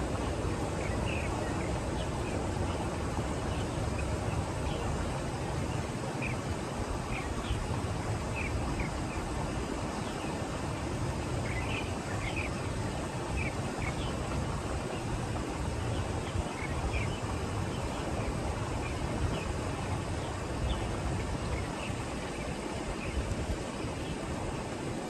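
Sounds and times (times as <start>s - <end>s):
small birds chirping: 0.6s - 10.6s, 11.4s - 24.3s.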